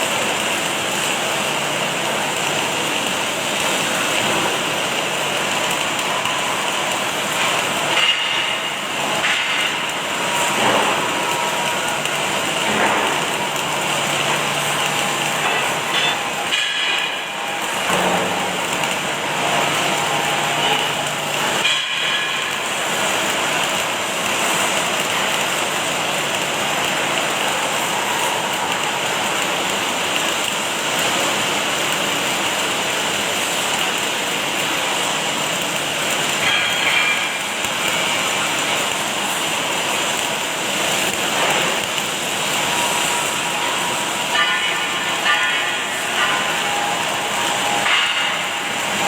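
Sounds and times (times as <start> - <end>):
arc welding crackling hiss: 0.0 - 49.0.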